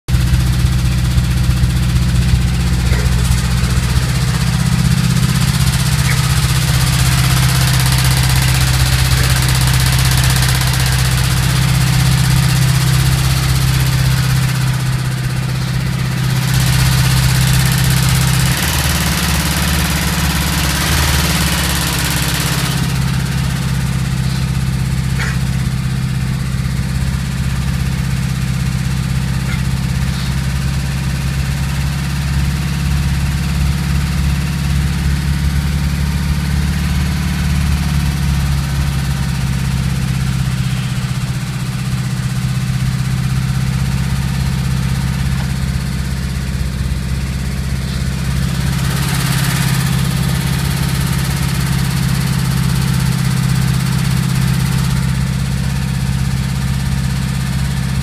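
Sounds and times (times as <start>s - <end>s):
engine bearing knock: 0.1s - 58.0s
petrol engine running: 0.1s - 58.0s.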